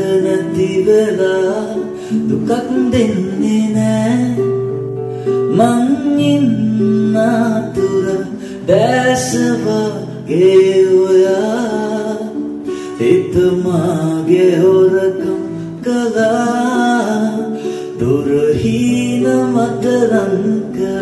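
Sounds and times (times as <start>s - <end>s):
person singing: 0.0s - 21.0s.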